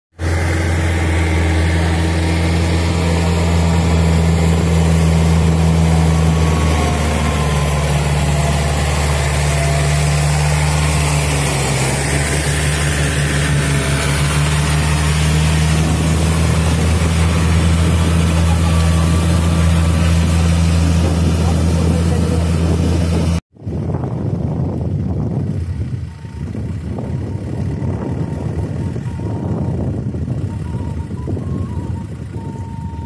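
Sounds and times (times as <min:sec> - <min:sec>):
tractor diesel engine droning: 0:00.1 - 0:33.0.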